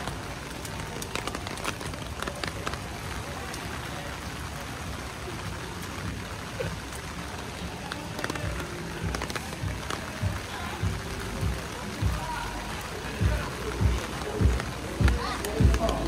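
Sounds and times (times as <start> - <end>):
sharp drips and taps: 0.0 - 16.0
steady rain falling: 0.0 - 16.0.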